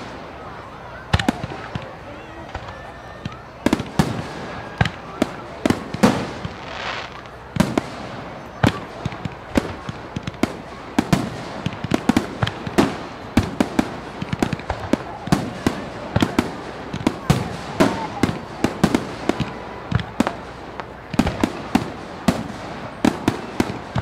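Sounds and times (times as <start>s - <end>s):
fireworks bangs and crackles: 0.0s - 24.0s
fireworks hissing rush: 0.0s - 24.0s.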